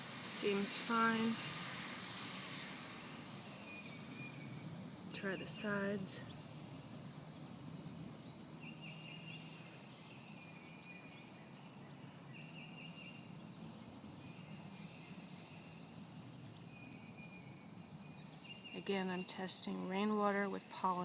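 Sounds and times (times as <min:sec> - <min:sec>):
low outdoor hum: 0:00.0 - 0:21.0.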